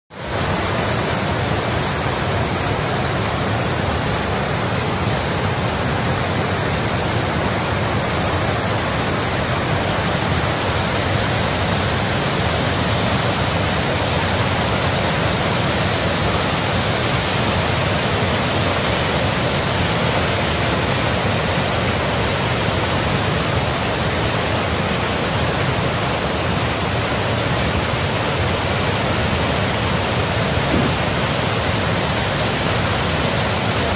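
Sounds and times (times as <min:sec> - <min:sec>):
river rapids roaring over boulders: 0:00.1 - 0:33.9.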